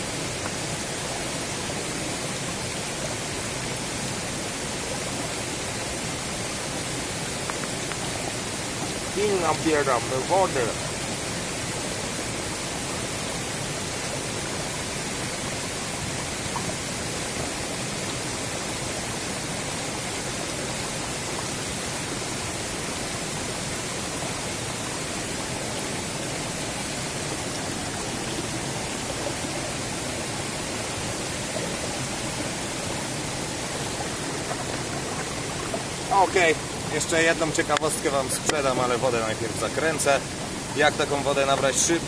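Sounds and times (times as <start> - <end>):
stream water rushing over rocks: 0.0 - 42.0.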